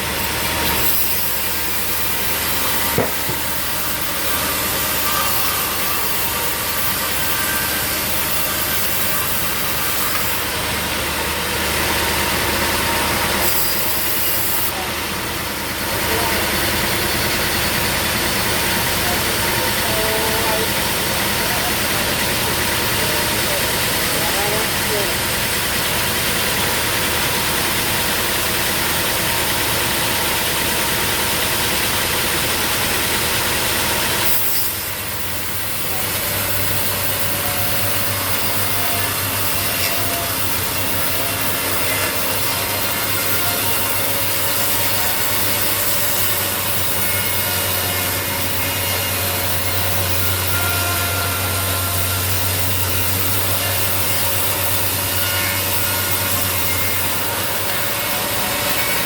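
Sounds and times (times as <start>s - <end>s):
engine running: 0.0s - 59.0s
saw cutting through log: 0.0s - 59.0s.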